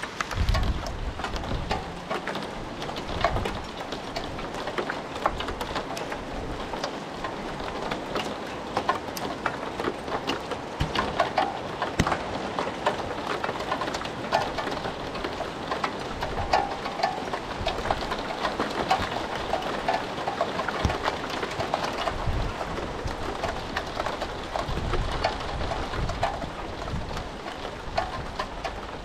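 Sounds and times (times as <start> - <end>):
rain falling: 0.0 - 29.0
raindrops ticking on a surface: 0.0 - 29.0.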